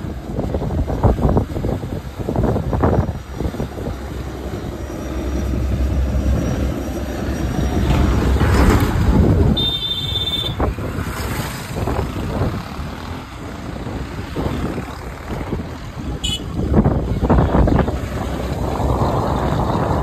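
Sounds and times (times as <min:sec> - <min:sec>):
boat engine rumbling: 0:00.0 - 0:20.0
wind noise on microphone: 0:00.0 - 0:20.0.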